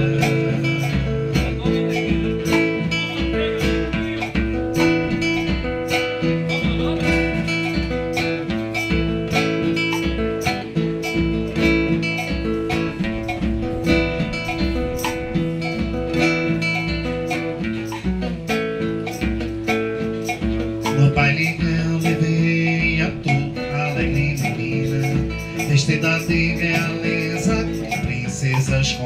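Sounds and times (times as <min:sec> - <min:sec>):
acoustic guitar strumming: 0:00.0 - 0:29.0
hand drums and percussion: 0:00.0 - 0:29.0.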